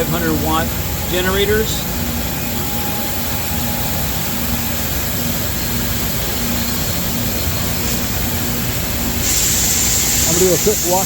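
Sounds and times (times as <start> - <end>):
cleaning machine running: 0.0 - 11.0.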